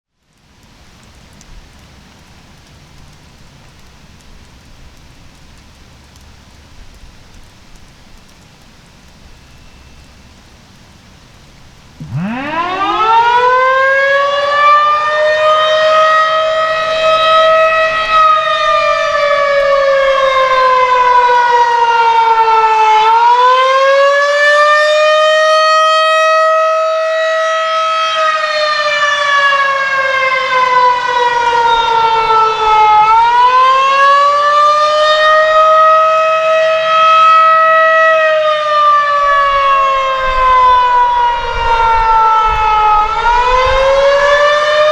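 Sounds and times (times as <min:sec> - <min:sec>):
outdoor warning siren wailing: 0:07.4 - 0:44.9.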